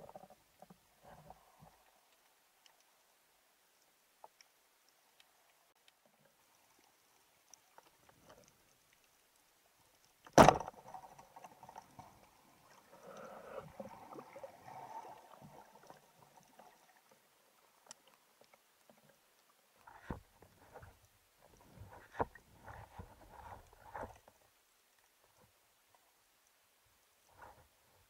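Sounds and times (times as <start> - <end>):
water sloshing and bubbling: 0.0 - 28.0.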